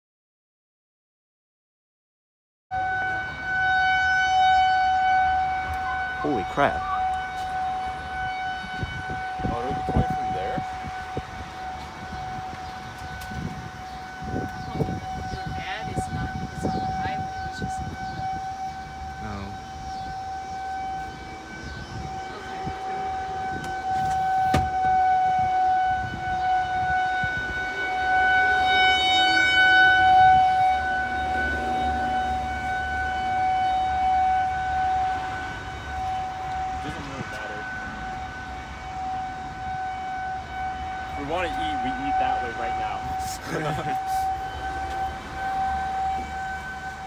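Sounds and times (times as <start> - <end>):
warning siren steady tone: 2.7 - 47.0.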